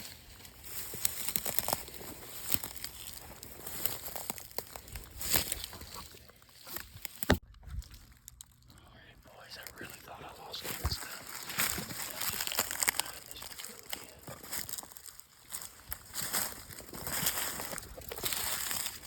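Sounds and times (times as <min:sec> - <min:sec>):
footsteps on dry leaves: 0:00.0 - 0:19.0
twigs snapping: 0:00.4 - 0:08.8, 0:09.4 - 0:19.0.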